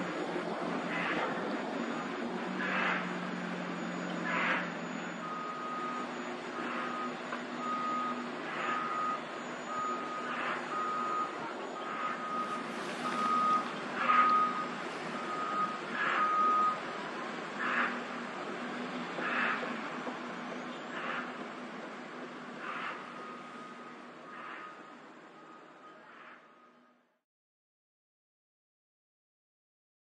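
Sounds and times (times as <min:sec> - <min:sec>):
diesel engine running: 0:00.0 - 0:27.1
reversing alarm beeping: 0:00.0 - 0:27.1.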